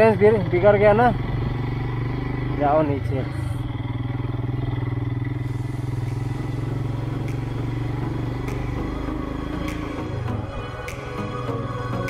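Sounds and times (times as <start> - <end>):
motorcycle engine running under load: 0.0 - 10.5.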